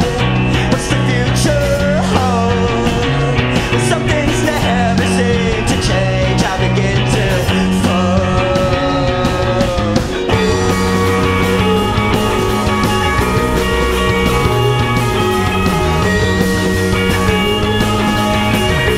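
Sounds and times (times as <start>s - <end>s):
drums: 0.0s - 18.9s
electric guitars: 0.0s - 18.9s
man singing lead: 0.0s - 18.9s.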